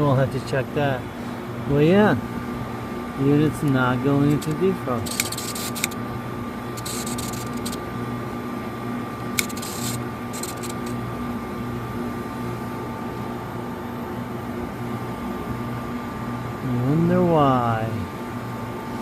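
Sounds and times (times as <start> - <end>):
refrigeration unit humming: 0.0 - 19.0.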